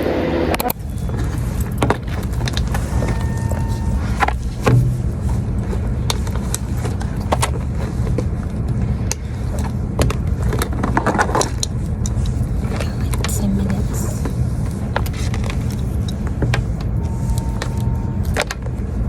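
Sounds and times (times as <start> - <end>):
car cabin rumble: 0.6 - 19.0.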